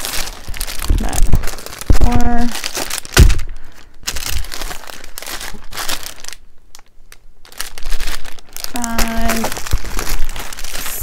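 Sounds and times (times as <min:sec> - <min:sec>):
plastic packs crinkling: 0:00.0 - 0:11.0.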